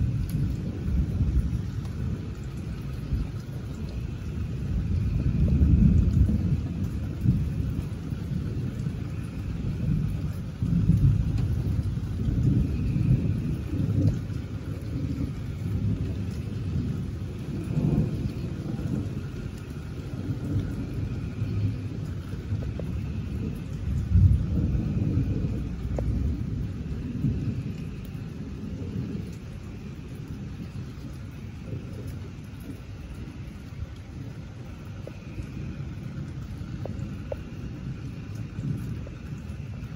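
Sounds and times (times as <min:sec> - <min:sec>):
thunder rumbling: 0:00.0 - 0:39.9.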